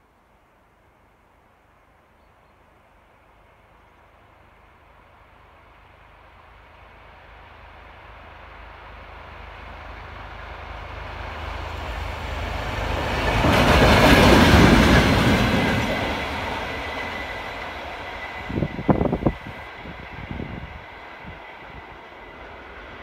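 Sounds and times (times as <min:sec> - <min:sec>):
diesel locomotive passing: 0:02.8 - 0:23.0.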